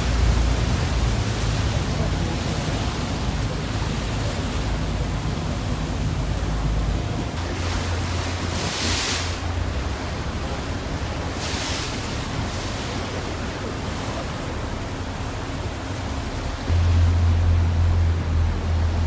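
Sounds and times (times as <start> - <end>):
boat engine hum: 0.0 - 19.0
sea water rushing: 0.0 - 19.0.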